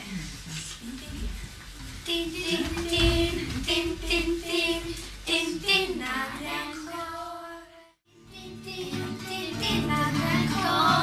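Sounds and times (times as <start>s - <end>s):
children singing: 2.0s - 11.0s.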